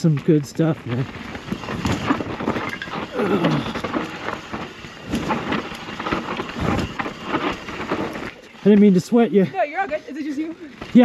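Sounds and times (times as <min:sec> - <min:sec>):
bike tyres on dirt and rock: 0:00.0 - 0:11.0.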